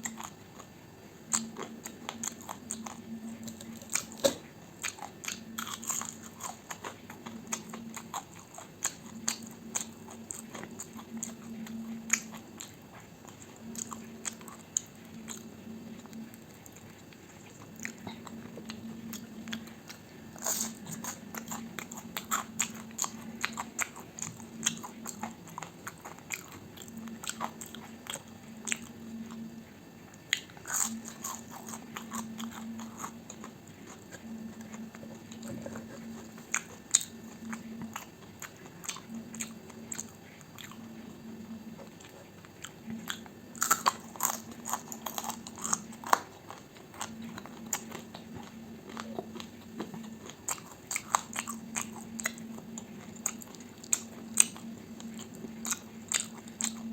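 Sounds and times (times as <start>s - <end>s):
close chewing and crunching: 0.0s - 56.9s.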